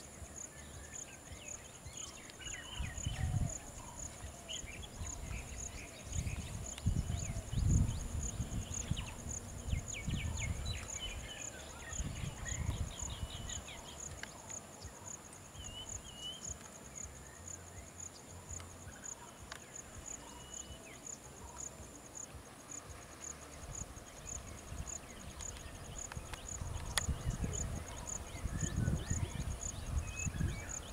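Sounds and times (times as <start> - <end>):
birds chirping: 0.0 - 30.9
insect calling with pulsing drone: 0.0 - 30.9.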